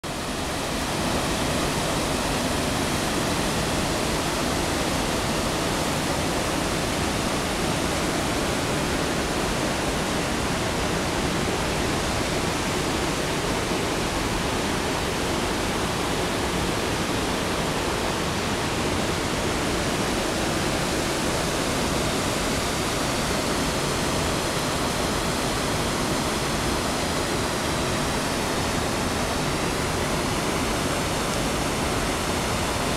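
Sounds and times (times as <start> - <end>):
river rushing over rapids: 0.1 - 32.9.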